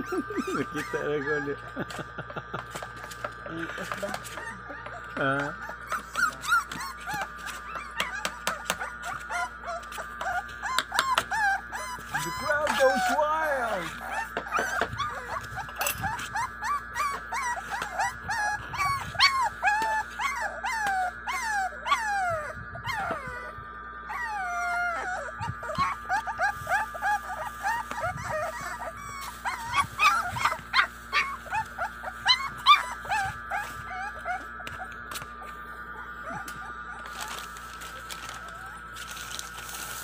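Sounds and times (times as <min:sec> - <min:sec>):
steady high tone: 0:00.0 - 0:02.2, 0:03.0 - 0:40.0
puppies whining and yelping: 0:00.0 - 0:40.0.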